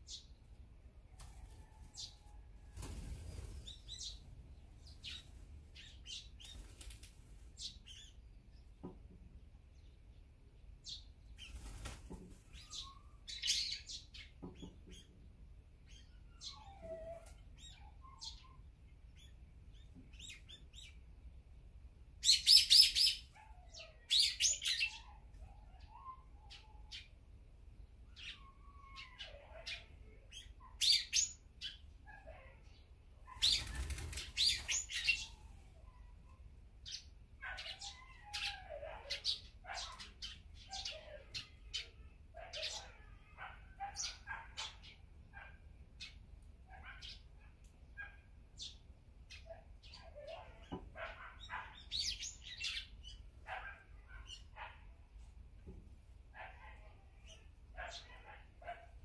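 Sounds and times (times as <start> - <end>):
birds chirping and calling: 0.0 - 21.4, 22.2 - 59.0.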